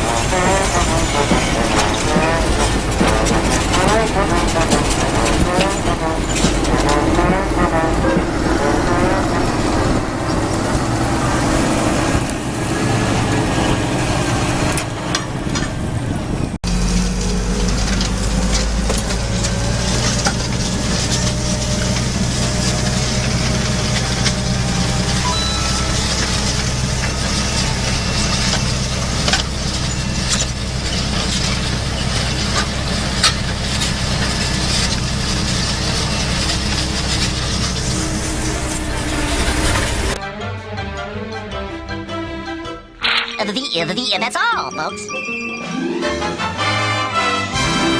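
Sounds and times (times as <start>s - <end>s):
tractor diesel engine running: 0.0s - 40.2s.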